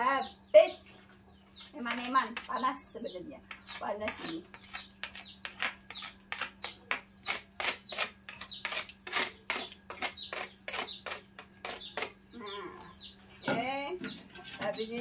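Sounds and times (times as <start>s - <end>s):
utensil scraping with squeaks: 1.1s - 15.0s.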